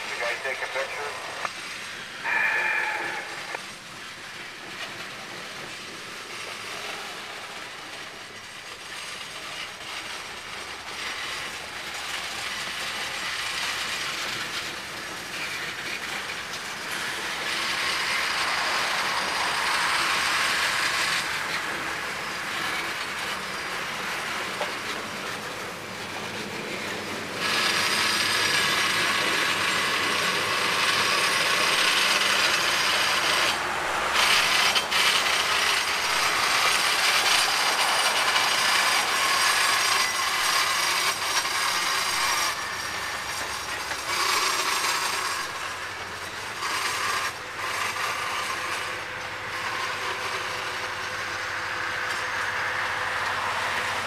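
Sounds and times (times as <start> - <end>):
harsh wheel noise: 0.0 - 54.0
train wheels rumbling over track: 0.0 - 54.0.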